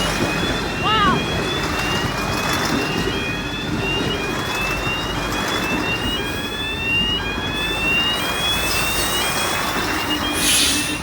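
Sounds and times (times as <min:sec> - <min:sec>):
level crossing warning alarm: 0:00.0 - 0:11.0.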